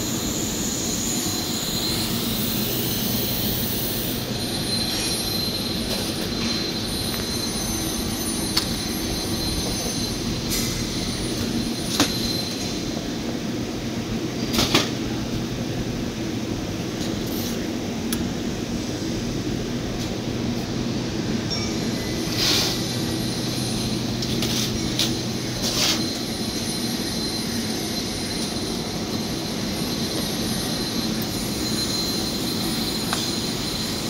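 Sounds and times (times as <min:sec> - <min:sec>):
industrial workshop drone: 0:00.0 - 0:34.0.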